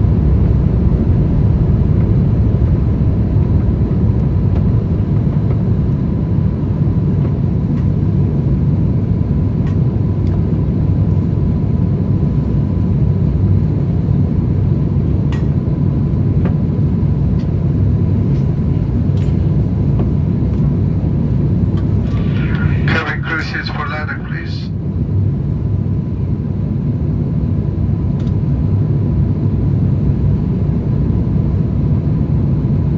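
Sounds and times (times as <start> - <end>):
airliner in flight rumble: 0.0 - 32.9.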